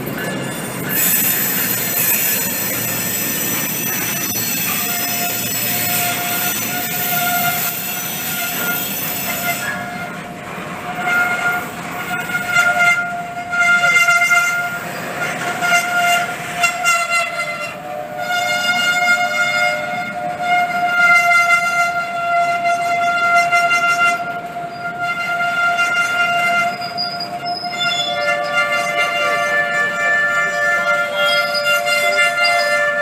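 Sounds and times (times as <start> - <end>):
rumble and clatter of train cars: 0.0 - 33.0
train wheels squealing on rails: 0.0 - 33.0.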